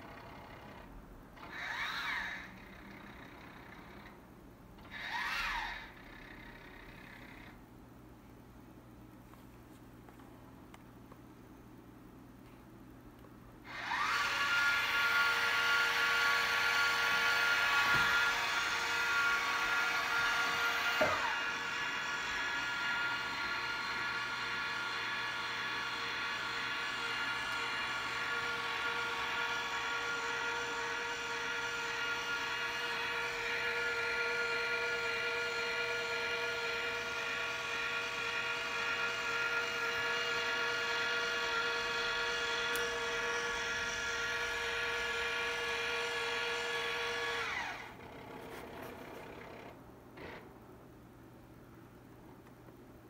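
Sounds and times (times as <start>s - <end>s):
telescope motors whining: 0.0s - 4.2s, 4.8s - 7.6s, 13.6s - 50.5s.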